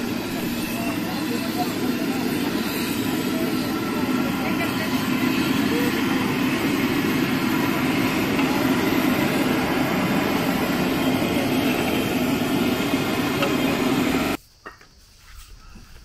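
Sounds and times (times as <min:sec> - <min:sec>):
gas burner roaring: 0:00.0 - 0:14.4.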